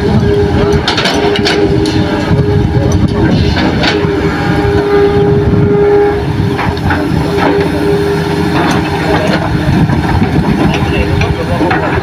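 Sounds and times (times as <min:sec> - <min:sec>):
excavator diesel engine whining: 0:00.0 - 0:12.0.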